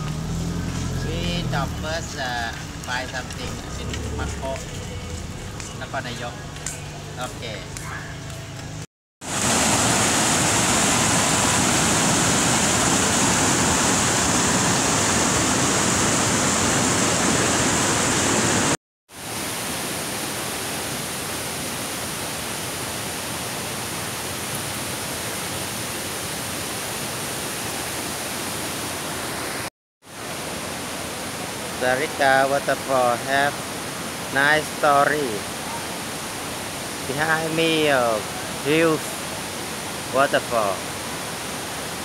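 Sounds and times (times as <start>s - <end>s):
waterfall roaring: 0.0s - 8.3s, 9.3s - 42.0s.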